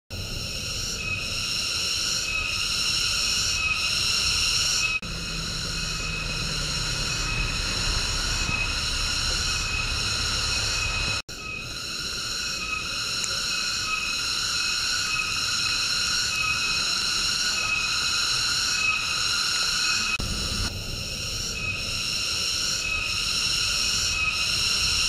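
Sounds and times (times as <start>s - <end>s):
insect chorus buzzing: 0.1s - 25.0s.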